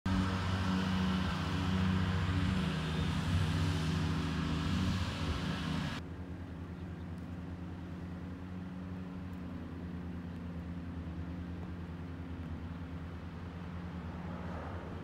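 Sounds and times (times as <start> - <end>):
wash of noise: 0.1 - 6.3, 7.4 - 15.0
low mechanical hum: 0.1 - 15.0.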